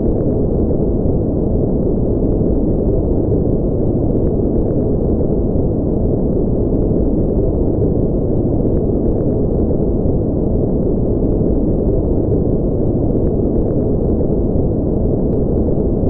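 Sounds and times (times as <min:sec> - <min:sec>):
deep rumbling brown noise: 0:00.0 - 0:16.0.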